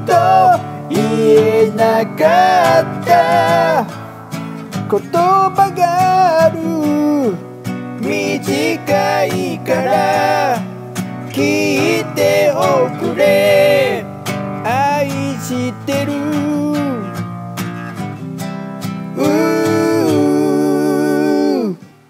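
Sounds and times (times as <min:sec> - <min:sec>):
person singing: 0:00.0 - 0:04.1, 0:04.9 - 0:17.2, 0:19.1 - 0:21.9
acoustic guitar strumming: 0:00.0 - 0:22.0.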